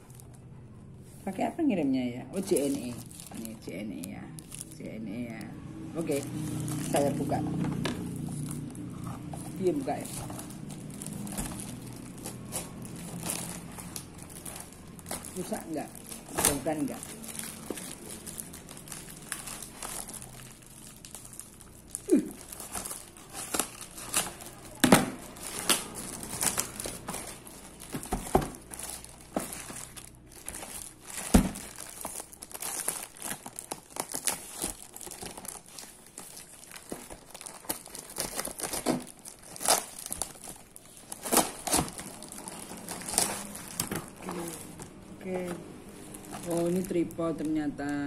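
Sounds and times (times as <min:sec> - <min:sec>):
plastic wrapping crinkling and tearing: 0:00.0 - 0:00.6, 0:01.2 - 0:48.0.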